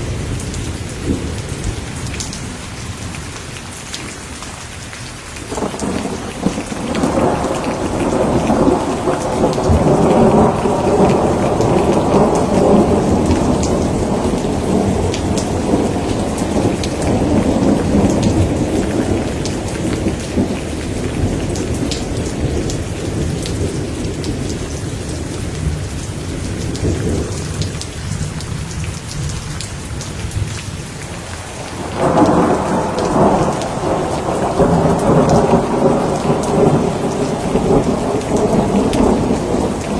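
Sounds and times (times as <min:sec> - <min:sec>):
heavy rain: 0:00.0 - 0:39.9
rolling thunder: 0:05.5 - 0:29.5, 0:31.5 - 0:39.9.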